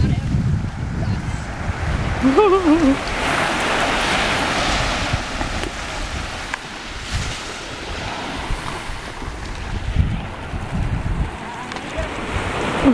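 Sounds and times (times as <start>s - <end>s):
small waves washing ashore: 0.0s - 12.9s
wind buffeting microphone: 0.0s - 12.9s.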